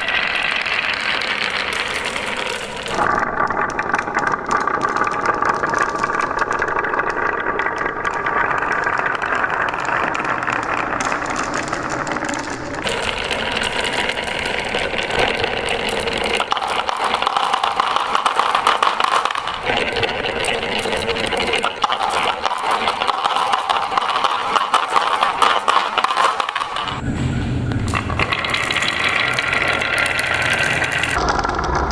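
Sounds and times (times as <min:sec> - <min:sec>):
marbles clattering down wooden run: 0:00.0 - 0:27.0, 0:27.8 - 0:31.9.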